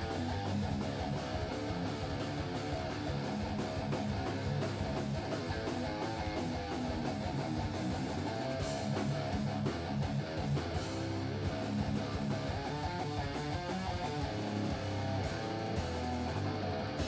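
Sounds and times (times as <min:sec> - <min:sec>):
live metal band playing: 0:00.0 - 0:17.0.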